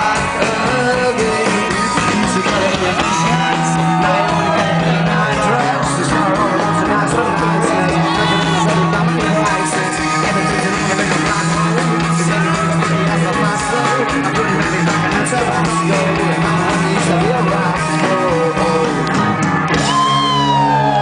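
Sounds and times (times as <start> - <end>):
person singing: 0.0 - 19.2
rock band playing live: 0.0 - 21.0.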